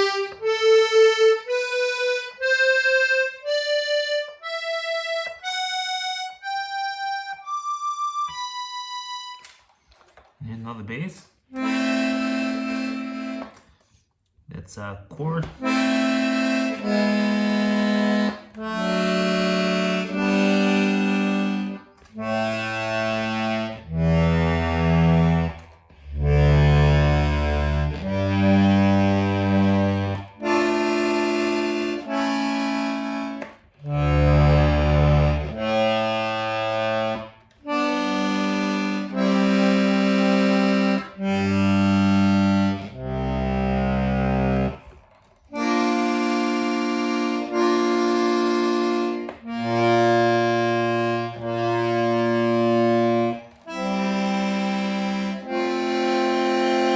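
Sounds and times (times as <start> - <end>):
accordion bass notes and chords: 0.0 - 9.7, 10.4 - 13.9, 14.5 - 56.9.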